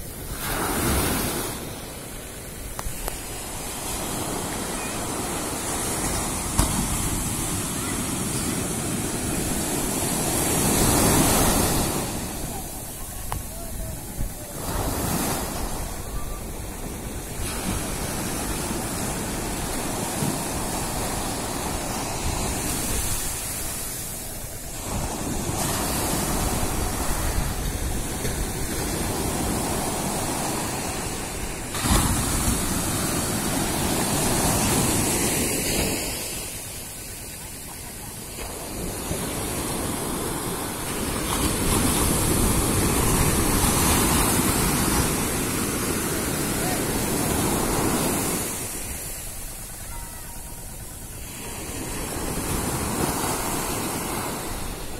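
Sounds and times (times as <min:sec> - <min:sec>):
wind on microphone: 0:00.0 - 0:36.9, 0:38.4 - 0:54.9
surf breaking on beach: 0:00.0 - 0:54.9.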